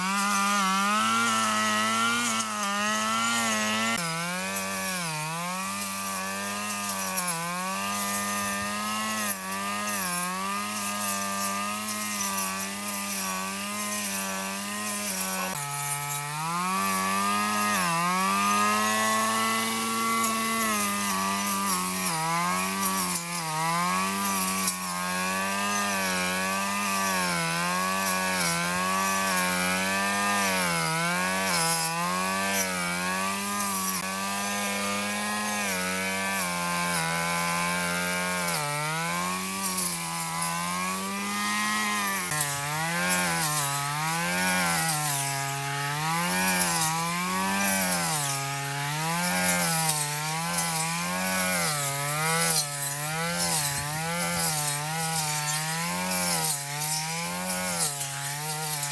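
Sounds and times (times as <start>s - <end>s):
lawn mower engine running: 0.0s - 58.9s.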